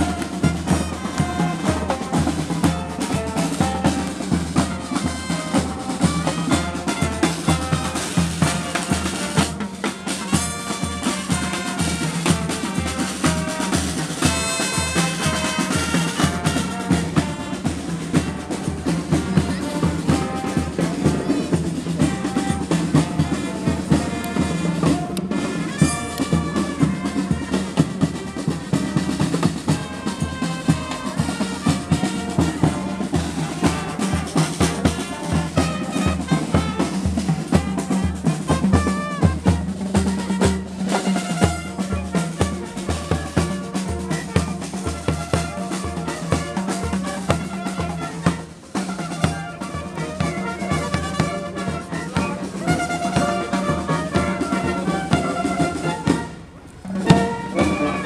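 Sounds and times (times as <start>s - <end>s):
marching brass band playing: 0.0s - 58.0s
snare drum beat: 0.0s - 58.0s.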